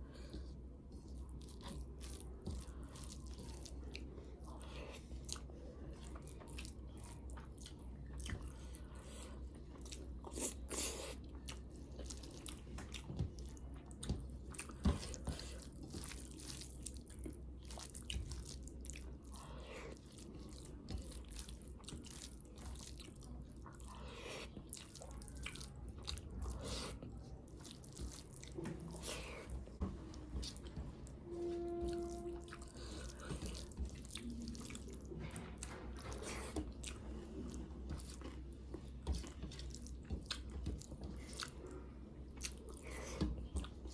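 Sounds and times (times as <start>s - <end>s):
wet chewing and mouth smacks: 0.3s - 29.5s, 31.8s - 43.9s.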